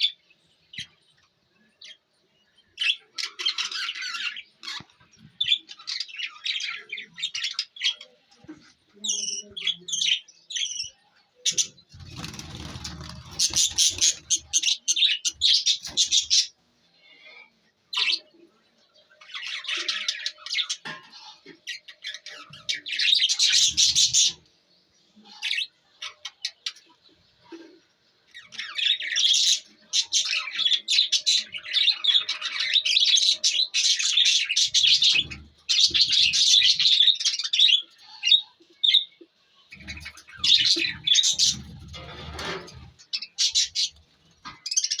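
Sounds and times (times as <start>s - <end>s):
budgie chicks chirping and squawking: 0.0s - 45.0s.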